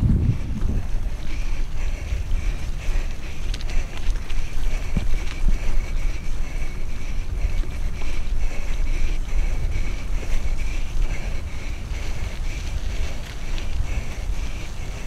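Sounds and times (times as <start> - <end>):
wind buffeting microphone: 0.0 - 15.0
bike clicks and rattles: 0.2 - 15.0.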